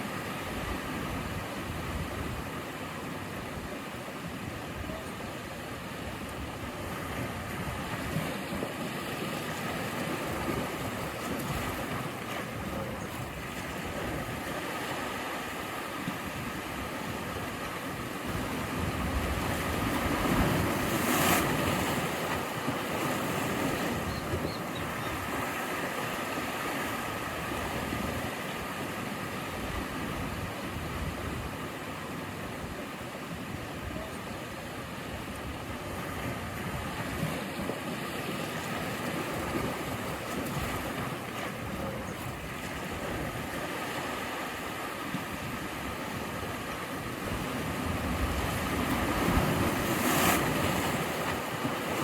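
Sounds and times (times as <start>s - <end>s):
sea waves washing on shore: 0.0s - 52.0s.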